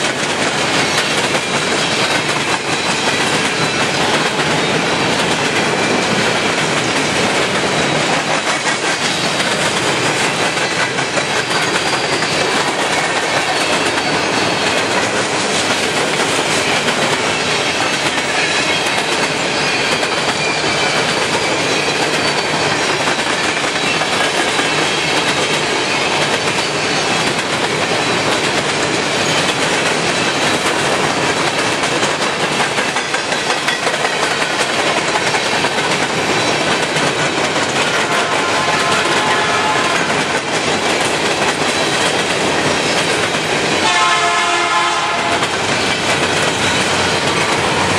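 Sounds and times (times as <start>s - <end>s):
steel train wheels on rails: 0.0s - 47.9s.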